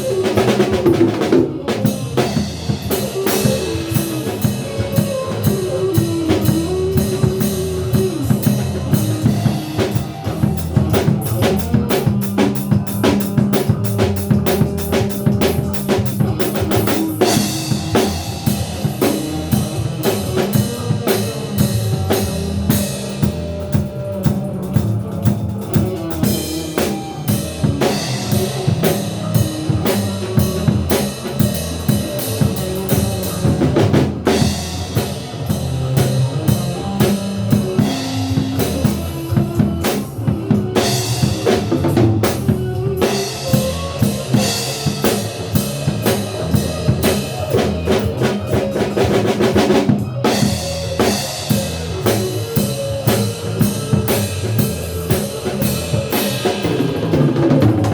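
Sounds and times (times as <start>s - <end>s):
drum kit playing: 0.0s - 57.9s
recorded band music: 0.0s - 57.9s.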